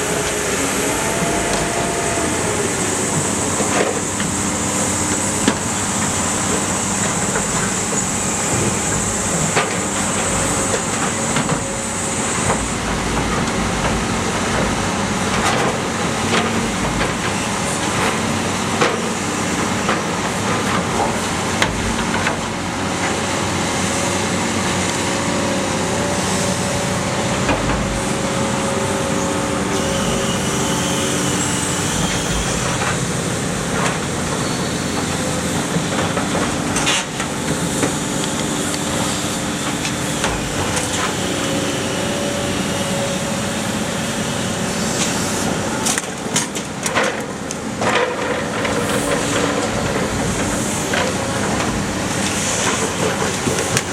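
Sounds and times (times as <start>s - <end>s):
machine drone: 0.0s - 53.9s.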